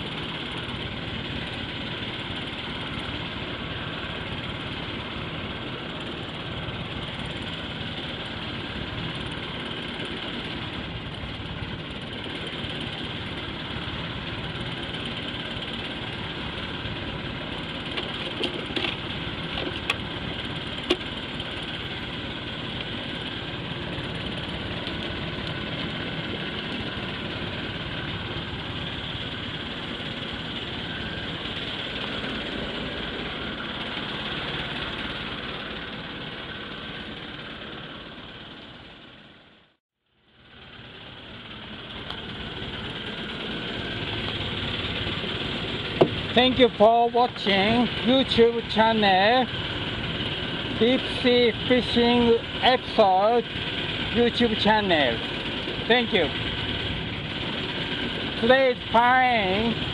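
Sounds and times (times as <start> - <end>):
boat engine idling: 0.0 - 59.9.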